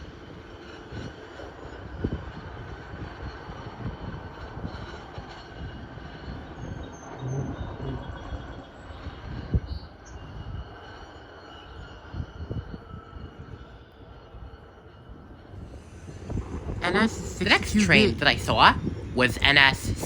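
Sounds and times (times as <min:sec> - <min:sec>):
train passing: 0:00.0 - 0:20.0.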